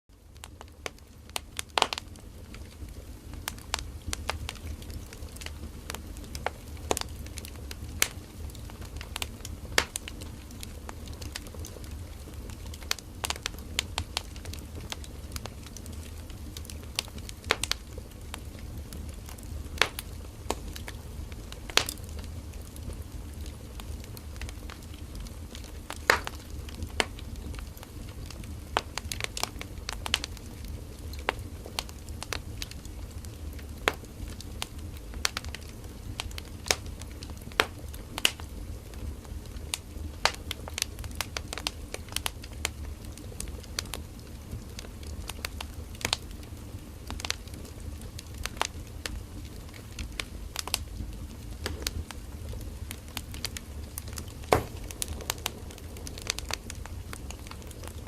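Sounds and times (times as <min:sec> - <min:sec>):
firewood crackling and popping: 0:00.1 - 0:58.0
flames rumbling and hissing: 0:00.1 - 0:58.0.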